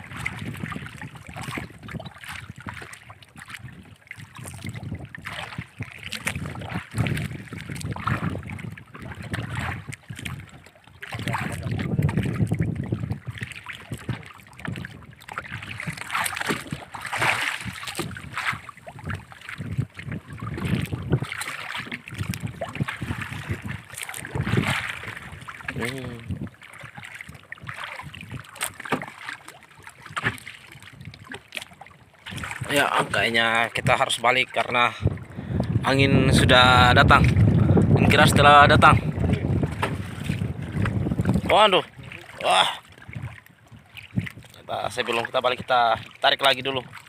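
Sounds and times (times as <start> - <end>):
wind buffeting microphone: 0.0 - 29.1, 32.2 - 47.0
waves lapping against hull: 0.0 - 47.0.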